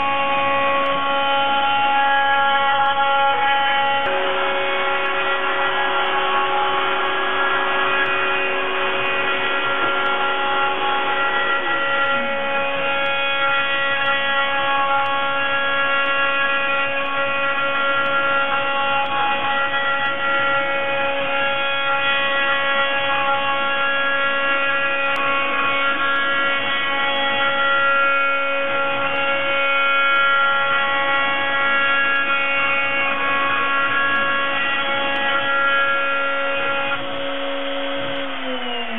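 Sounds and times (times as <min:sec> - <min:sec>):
milling spindle whine: 0:00.0 - 0:38.9
motors humming: 0:00.0 - 0:38.9.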